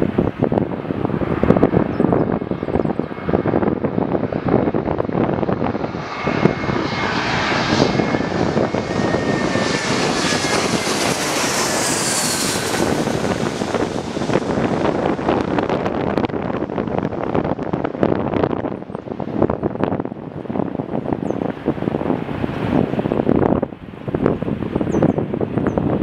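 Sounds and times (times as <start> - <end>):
jet airliner passing: 0.0 - 26.0
wind buffeting microphone: 0.0 - 26.0.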